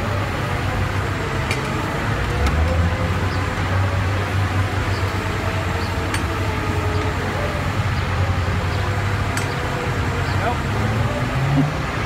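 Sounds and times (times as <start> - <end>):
car engines: 0.0 - 12.0
road traffic rumble: 0.0 - 12.0.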